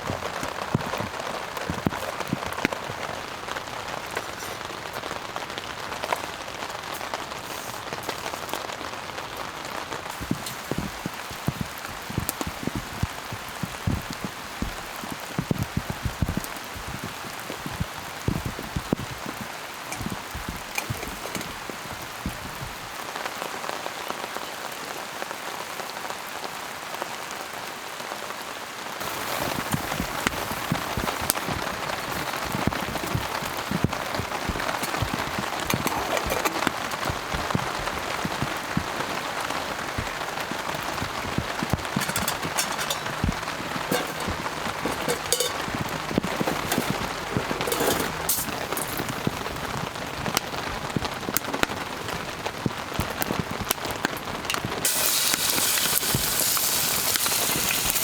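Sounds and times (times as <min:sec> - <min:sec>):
raindrops striking a surface: 0:00.0 - 0:58.0
steady rain falling: 0:00.0 - 0:58.0.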